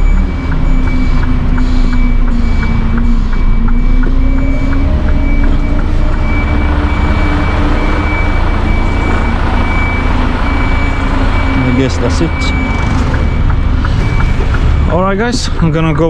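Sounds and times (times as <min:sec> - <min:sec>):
diesel truck engine running: 0:00.0 - 0:16.0
high warning tone: 0:00.0 - 0:16.0.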